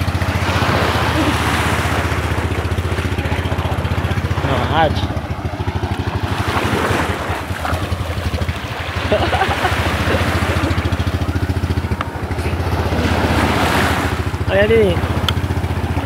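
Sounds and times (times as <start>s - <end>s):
engine idling: 0.0s - 16.0s
small waves splashing: 0.0s - 16.0s.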